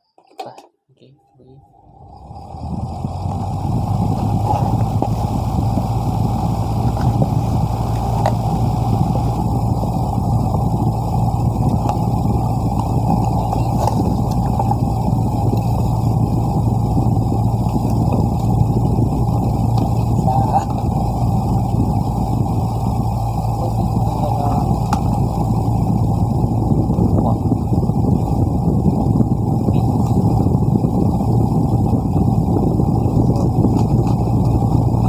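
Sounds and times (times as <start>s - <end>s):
motor humming: 1.5s - 35.0s.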